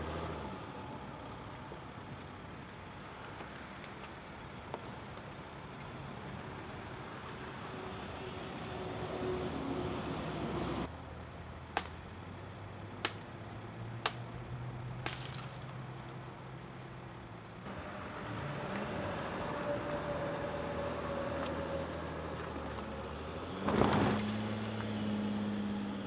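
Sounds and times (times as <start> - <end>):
drivetrain whine: 0.0 - 26.0.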